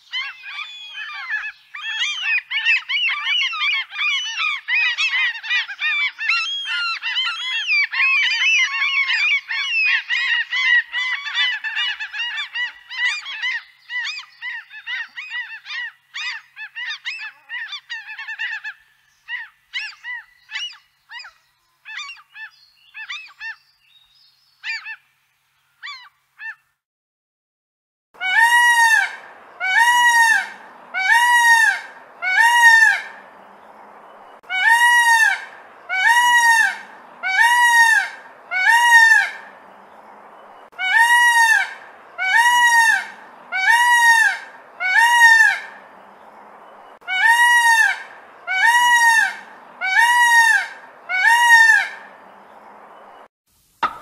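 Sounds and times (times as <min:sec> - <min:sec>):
gulls calling: 0:00.0 - 0:23.6, 0:28.2 - 0:54.0
peacock calling loudly: 0:00.0 - 0:23.6, 0:25.8 - 0:26.7, 0:28.2 - 0:33.7, 0:34.3 - 0:40.0, 0:40.6 - 0:54.0.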